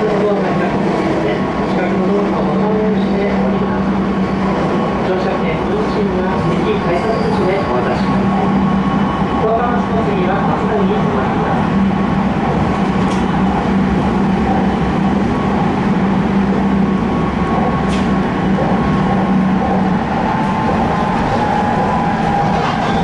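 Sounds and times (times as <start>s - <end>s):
railcar engine hum: 0.0s - 23.0s
wheels rumbling on rail: 0.0s - 23.0s.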